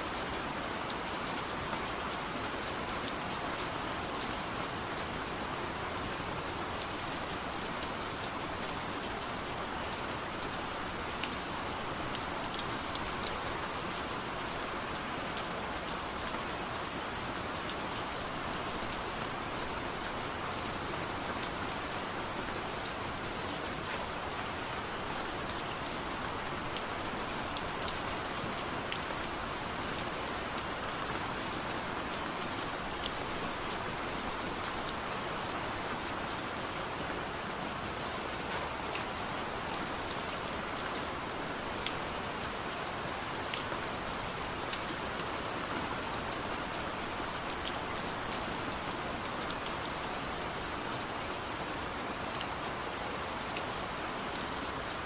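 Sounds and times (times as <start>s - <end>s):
light rain falling: 0.0s - 55.0s.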